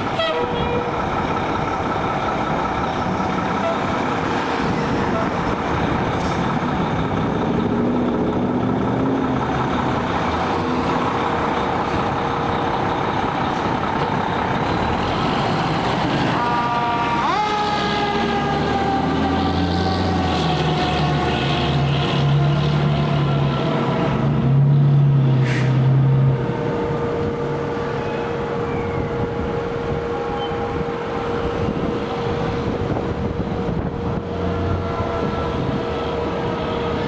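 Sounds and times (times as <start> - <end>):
diesel engine running: 0.0 - 37.0
fire engine siren wailing: 0.0 - 37.0.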